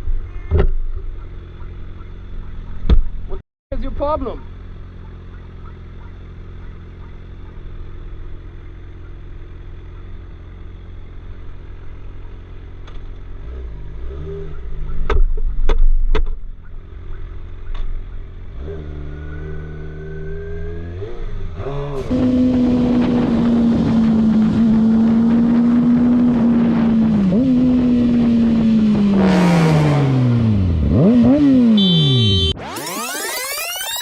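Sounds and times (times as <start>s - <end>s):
motorcycle engine revving: 4.4s - 33.2s.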